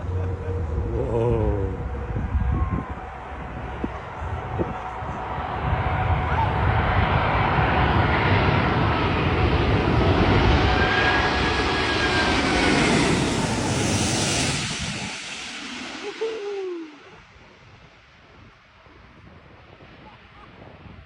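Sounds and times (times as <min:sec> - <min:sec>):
jet plane rumbling overhead: 0:00.0 - 0:21.0.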